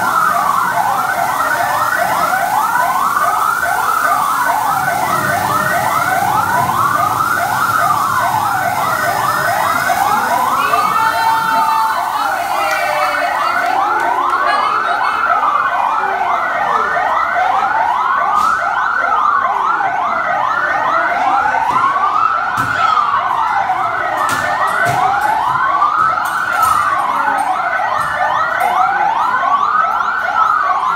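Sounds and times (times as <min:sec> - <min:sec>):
fast siren yelp: 0:00.0 - 0:30.9
fire truck siren wail: 0:00.0 - 0:30.9.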